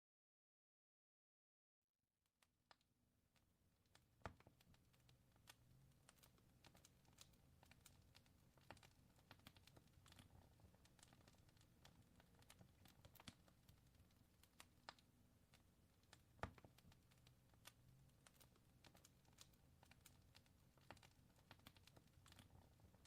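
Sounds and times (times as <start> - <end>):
fire crackling: 3.8 - 23.0.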